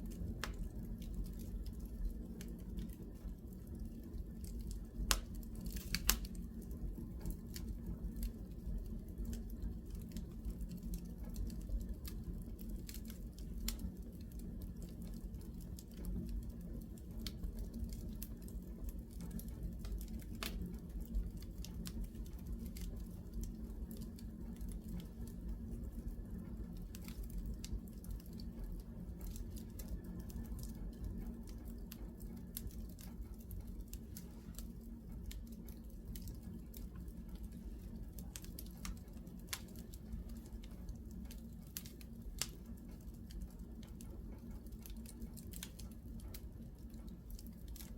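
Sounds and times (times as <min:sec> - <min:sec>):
low fire rumble: 0:00.0 - 0:47.9
wood fire crackling and popping: 0:00.0 - 0:47.9.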